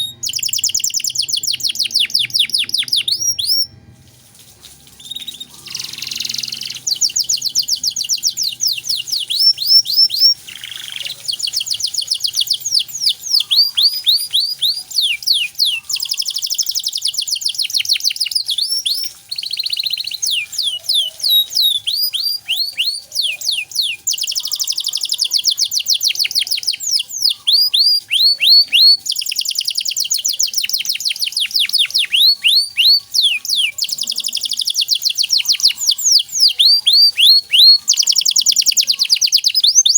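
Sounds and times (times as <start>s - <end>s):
canary singing trills: 0.0s - 3.8s, 5.0s - 39.9s.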